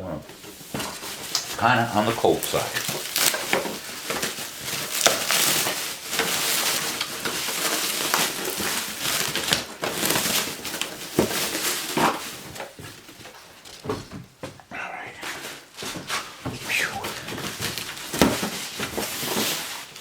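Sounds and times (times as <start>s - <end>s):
cardboard rustling and crunching: 0.3s - 14.6s, 15.3s - 20.0s.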